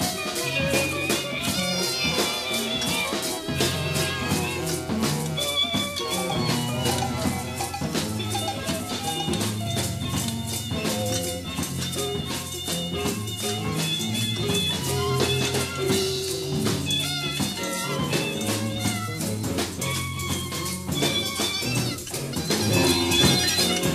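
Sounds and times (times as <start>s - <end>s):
held pitched notes: 0.0s - 23.9s
rattling hand percussion: 0.0s - 23.9s.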